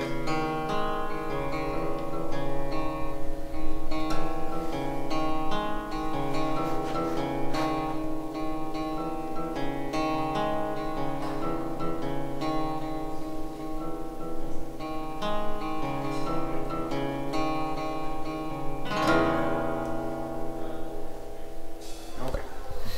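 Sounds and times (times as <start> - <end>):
acoustic guitar playing: 0.0 - 22.9.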